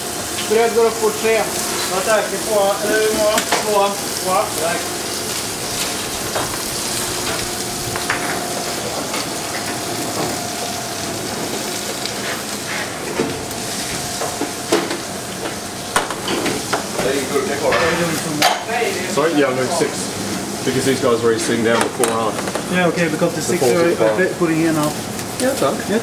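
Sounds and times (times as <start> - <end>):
sizzling hiss: 0.0 - 26.0.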